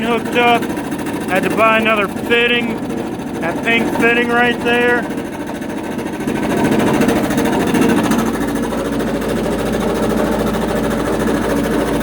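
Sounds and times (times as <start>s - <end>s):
air compressor pump chattering: 0.0s - 12.0s.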